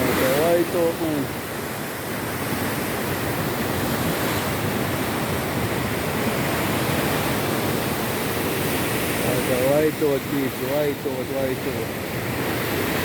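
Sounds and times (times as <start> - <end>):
choppy sea water rushing: 0.0 - 13.0.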